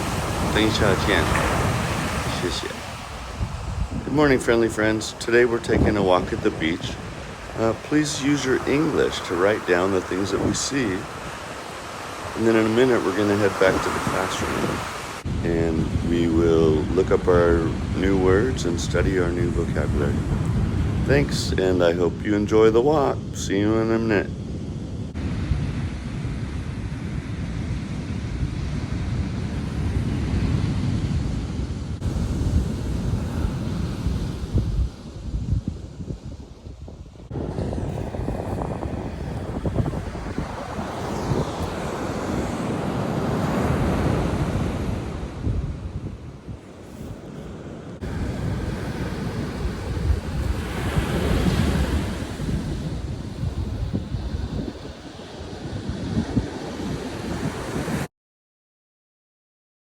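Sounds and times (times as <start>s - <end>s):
ocean surf washing on beach: 0.0s - 58.1s
wind buffeting microphone: 0.0s - 58.1s.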